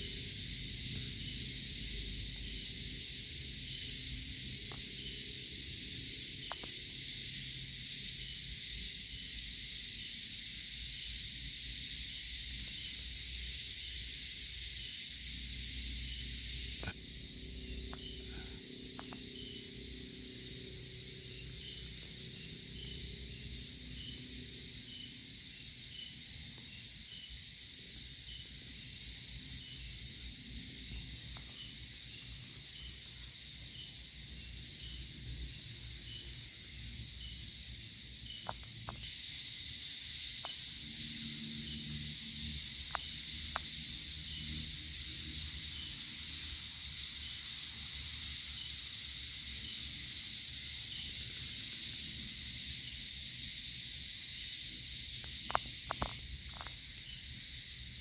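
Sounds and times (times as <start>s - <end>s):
continuous high insect trill: 0.0s - 58.0s
insects chirping: 0.0s - 58.0s.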